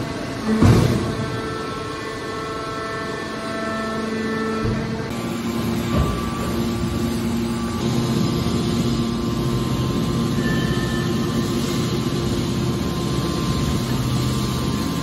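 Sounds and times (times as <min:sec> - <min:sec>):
hydraulic baler humming: 0:00.0 - 0:15.0.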